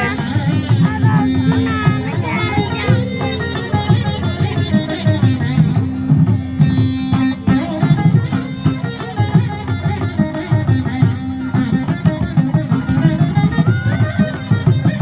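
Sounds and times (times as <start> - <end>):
hand drum rhythm: 0.0 - 15.0
veena plucked melody over drone: 0.0 - 15.0.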